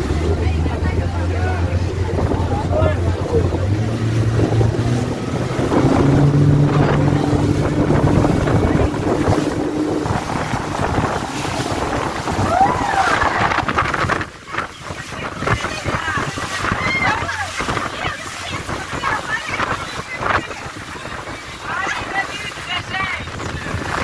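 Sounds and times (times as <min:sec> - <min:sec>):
churning wake and spray: 0:00.0 - 0:24.0
motorboat engine: 0:00.0 - 0:24.0
wind buffeting microphone: 0:00.0 - 0:24.0.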